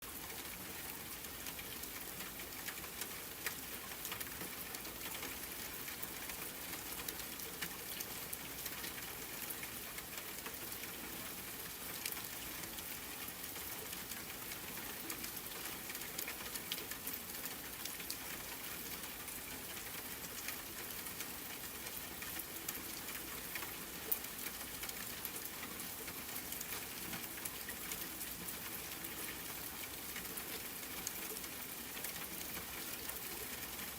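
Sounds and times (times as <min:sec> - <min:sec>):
raindrops ticking: 0:00.0 - 0:33.9
soft steady rain: 0:00.0 - 0:33.9.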